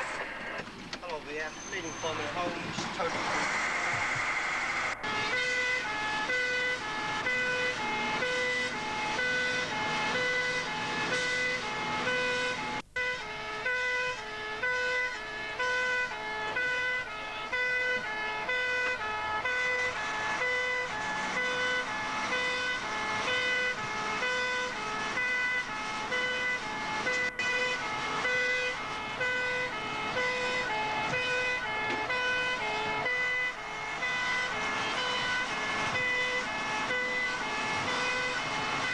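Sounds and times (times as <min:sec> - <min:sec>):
two-tone fire engine siren: 0:01.4 - 0:38.9.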